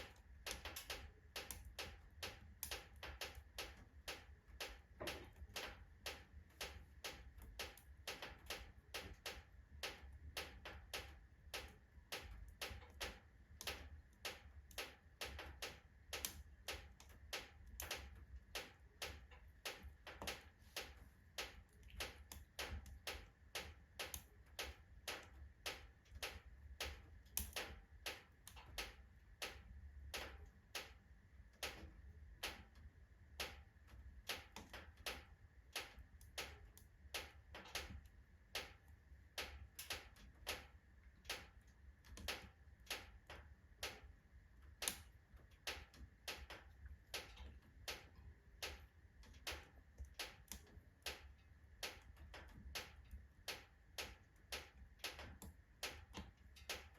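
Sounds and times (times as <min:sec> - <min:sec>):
logs crackling and popping in fireplace: 0:00.0 - 0:56.9.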